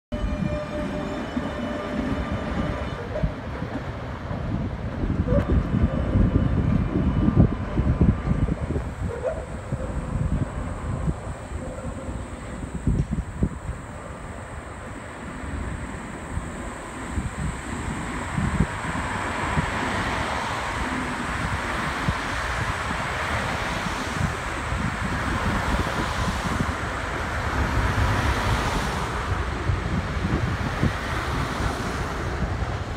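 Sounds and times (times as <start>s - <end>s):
street traffic noise: 0.1s - 32.9s
tram wheels rumbling on rails: 0.1s - 32.9s
wind buffeting microphone: 0.2s - 32.9s.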